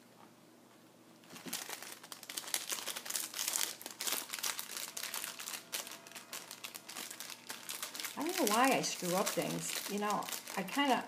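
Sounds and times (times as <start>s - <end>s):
paper and plastic wrapping crinkling: 1.2s - 11.0s.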